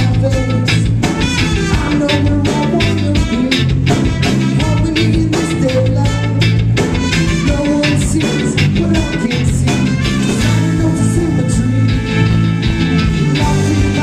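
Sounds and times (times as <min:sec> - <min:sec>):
band playing reggae rock: 0:00.0 - 0:14.0
trumpet lead line: 0:00.0 - 0:14.0.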